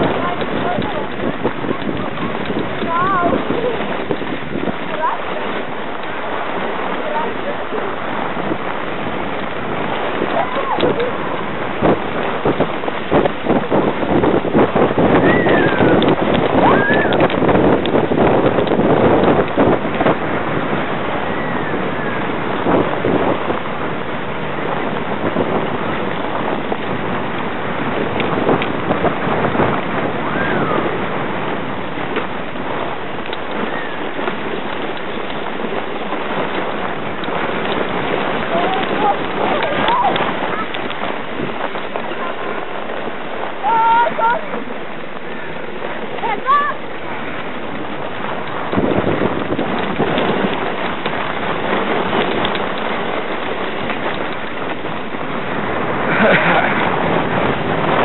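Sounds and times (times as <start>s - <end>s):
sled knocking over bumps: 0.0s - 58.0s
sled runners scraping on snow: 0.0s - 58.0s
wind buffeting microphone: 0.0s - 58.0s.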